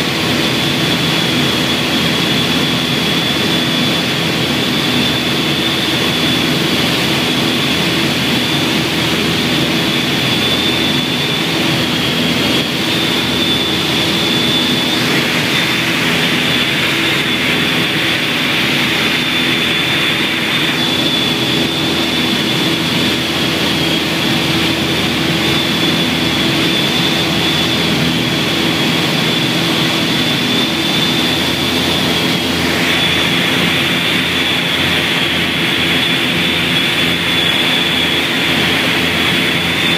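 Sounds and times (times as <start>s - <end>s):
aircraft engines droning: 0.0s - 39.9s
thin high whine: 0.4s - 39.9s.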